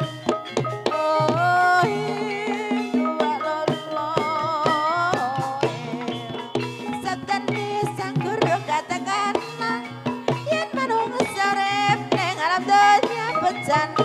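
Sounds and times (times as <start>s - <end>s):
hand-drum strokes: 0.0s - 14.0s
high wavering melody: 0.0s - 14.0s.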